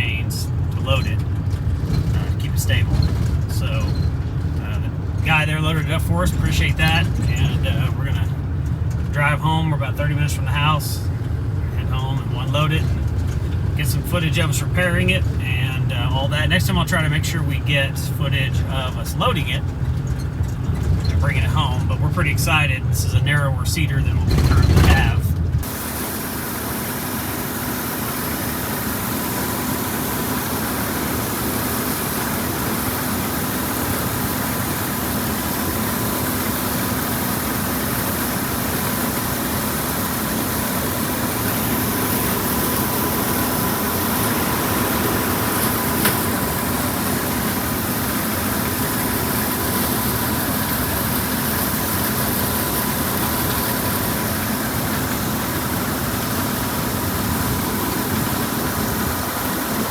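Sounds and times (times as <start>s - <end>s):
large engine running: 0.0s - 59.9s.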